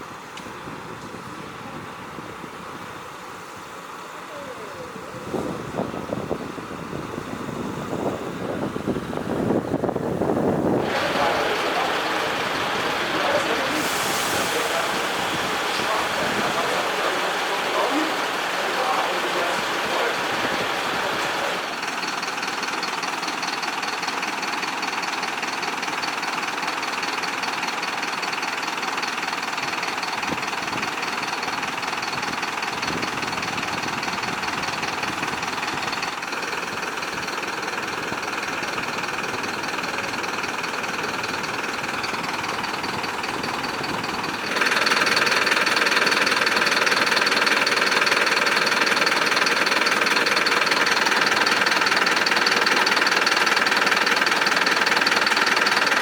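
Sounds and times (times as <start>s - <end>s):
diesel engine clattering: 0.0s - 56.0s.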